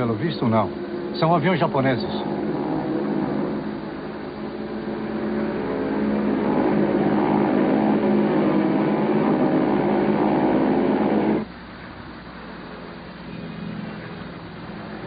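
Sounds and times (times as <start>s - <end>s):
plane piston engine droning: 0.0s - 15.0s.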